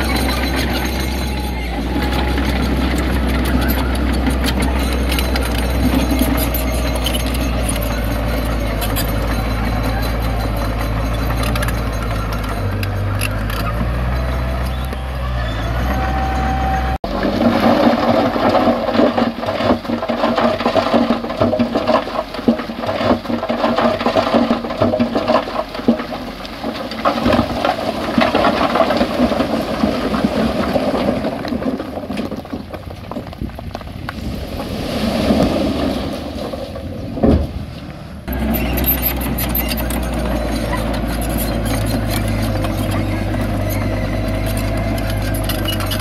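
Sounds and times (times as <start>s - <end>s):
rough rushing clattering noise: 0.0s - 15.1s, 15.7s - 46.0s
heavy machinery engine hum: 0.0s - 46.0s.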